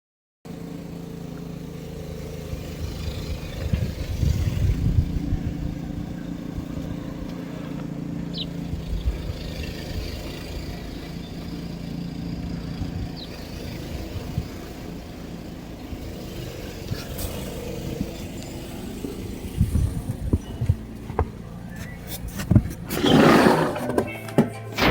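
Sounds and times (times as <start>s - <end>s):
engine running steadily: 0.5s - 24.9s.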